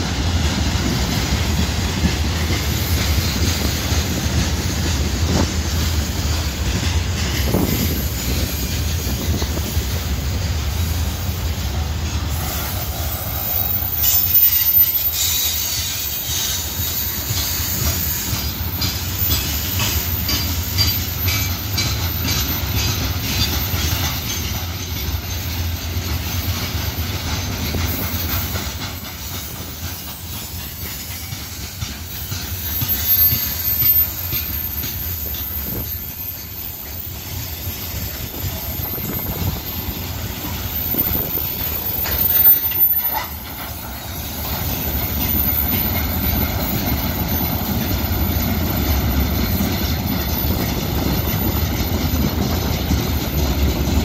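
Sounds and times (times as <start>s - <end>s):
freight train rumble: 0.0s - 54.0s
wheels clacking over rail joints: 0.0s - 54.0s.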